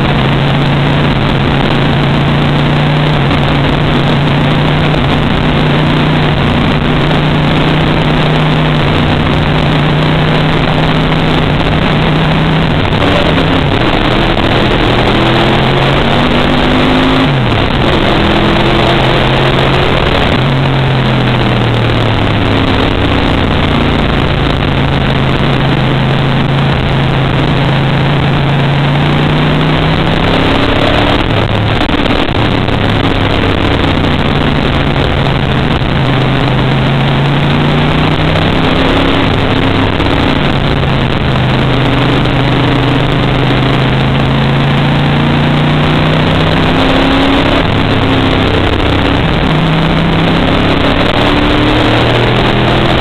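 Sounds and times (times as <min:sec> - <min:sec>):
race car engine: 0:00.0 - 0:53.0.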